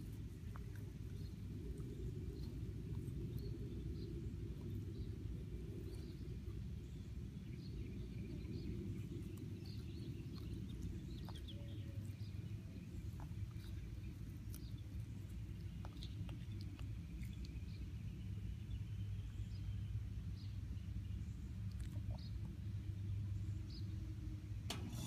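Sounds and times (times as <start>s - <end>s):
dog chewing grass: 0.0s - 19.6s, 21.4s - 23.1s
low rumble: 0.0s - 25.0s.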